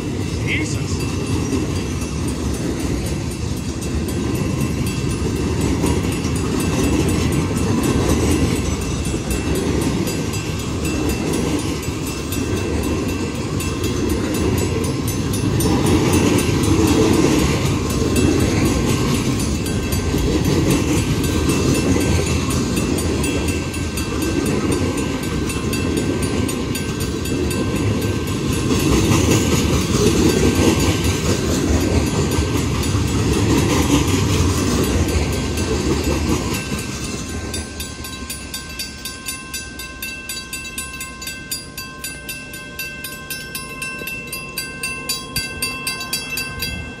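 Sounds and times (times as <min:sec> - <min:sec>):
crossing bell ringing: 0:00.0 - 0:47.0
freight train rumbling: 0:00.0 - 0:47.0.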